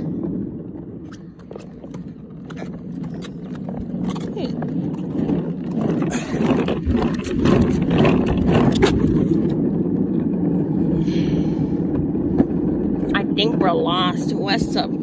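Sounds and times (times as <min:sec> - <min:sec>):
toy car wheels rumbling on concrete: 0:00.0 - 0:15.0.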